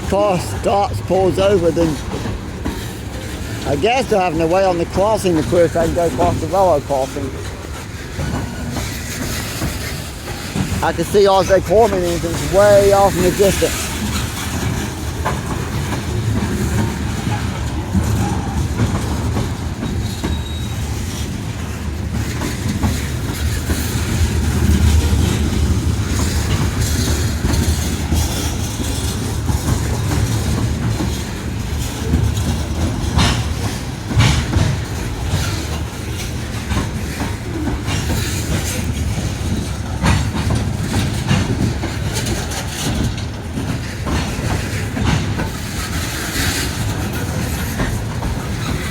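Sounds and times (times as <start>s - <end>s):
train cars rumbling past: 0.0s - 48.9s
wheels clacking over rail joints: 0.0s - 48.9s.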